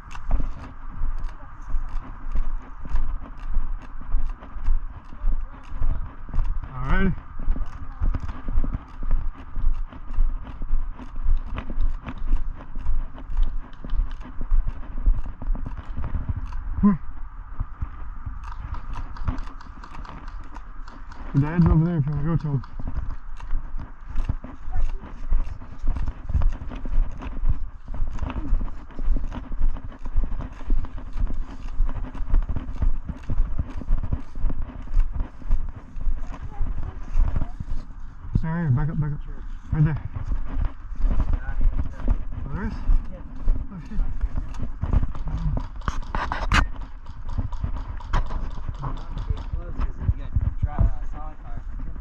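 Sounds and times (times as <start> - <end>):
footsteps crunching on ground: 0.0 - 52.0
rustling close to microphone: 0.0 - 52.0.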